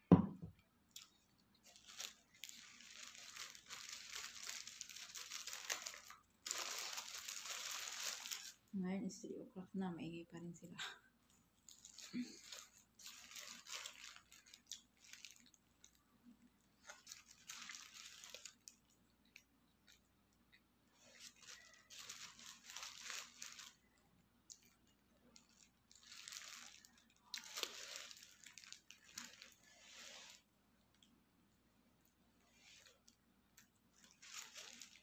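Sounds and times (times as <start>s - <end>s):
paper wrapper crinkling: 0.9s - 8.7s, 11.6s - 31.1s, 32.5s - 35.0s.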